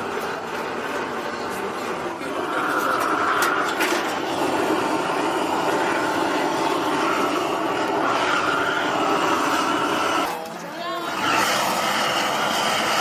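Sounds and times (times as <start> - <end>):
gas torch rushing: 0.0 - 13.0.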